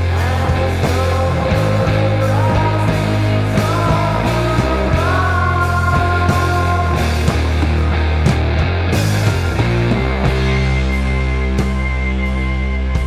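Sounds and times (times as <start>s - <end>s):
low bass notes: 0.0s - 13.0s
steady drum beat: 0.0s - 13.0s.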